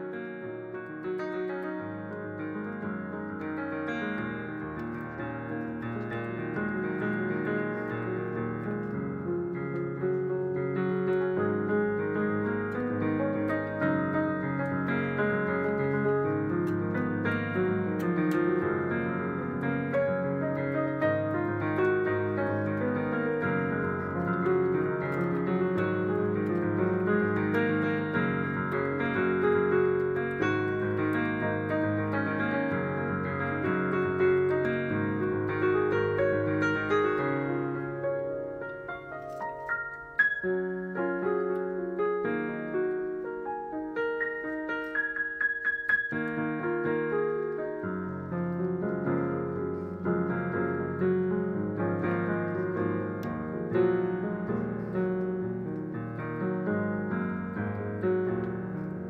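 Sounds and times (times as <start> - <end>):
keyboard chords: 0.0 - 59.0.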